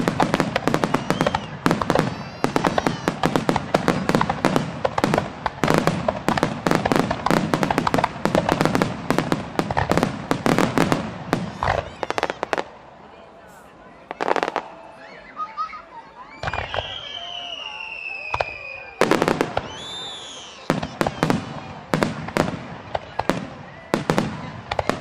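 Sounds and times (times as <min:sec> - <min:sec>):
fireworks bangs: 0:00.0 - 0:12.8, 0:13.5 - 0:14.9, 0:16.3 - 0:25.0.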